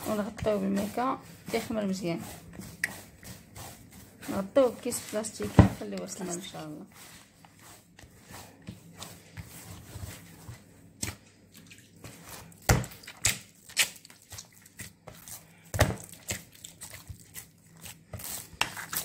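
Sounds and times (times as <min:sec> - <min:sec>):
wet dough slapping and squelching: 0:00.0 - 0:19.0.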